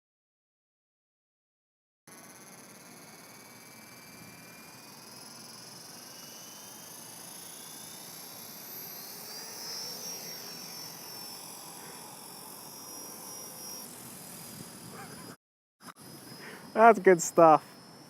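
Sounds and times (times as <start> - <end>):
model helicopter motor whine: 2.1 - 18.0.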